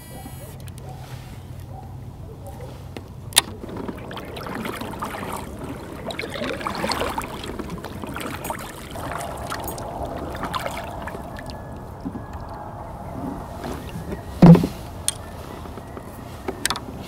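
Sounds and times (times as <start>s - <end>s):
low steady rumble: 0.0s - 17.0s
paddle splashing in water: 2.5s - 17.0s
water trickling: 3.3s - 17.0s.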